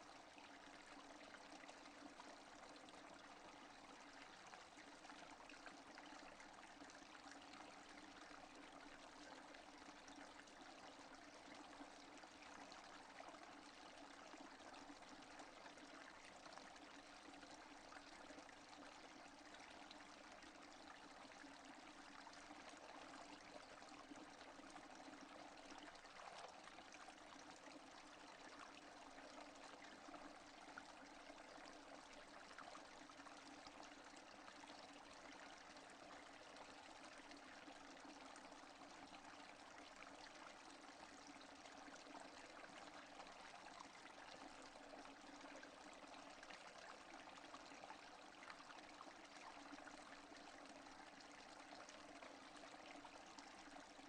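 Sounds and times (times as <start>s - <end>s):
faint steady rain: 0.0s - 54.0s.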